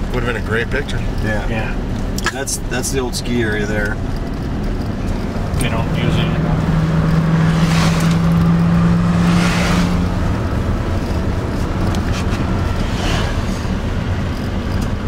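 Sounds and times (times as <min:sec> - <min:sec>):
car engine humming: 0:00.0 - 0:15.0
tyre and road noise: 0:00.0 - 0:15.0.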